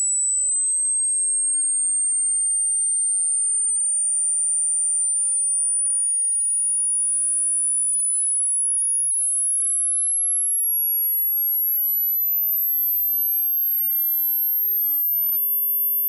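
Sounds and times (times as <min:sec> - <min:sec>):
high-pitched sine tone sweep: 0:00.0 - 0:10.0, 0:11.5 - 0:16.0.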